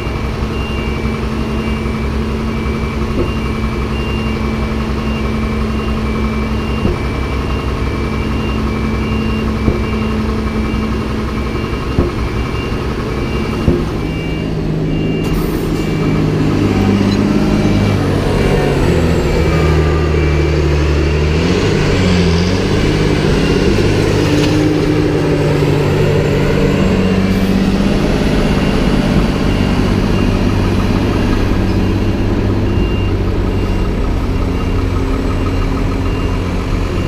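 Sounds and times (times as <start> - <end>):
heavy diesel engines running: 0.0 - 37.0
reversing alarm beeping: 0.0 - 37.0.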